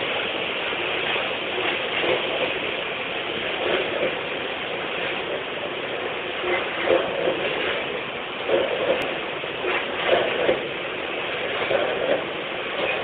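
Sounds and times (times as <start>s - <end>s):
machine mechanical clatter: 0.0s - 13.0s.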